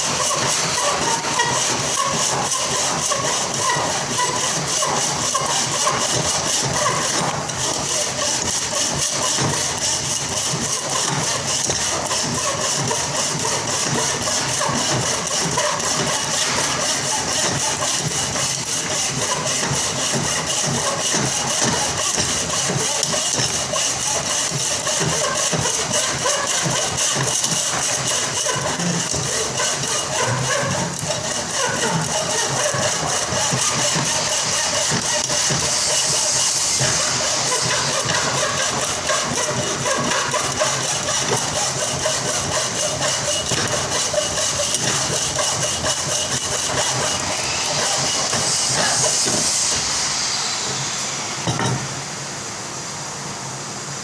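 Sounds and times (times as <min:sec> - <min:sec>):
motor running with high hiss: 0:00.0 - 0:53.1.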